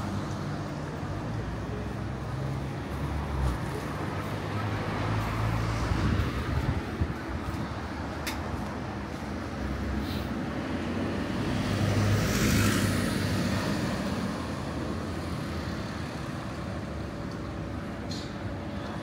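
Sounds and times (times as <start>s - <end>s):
street background noise: 0.0s - 19.0s.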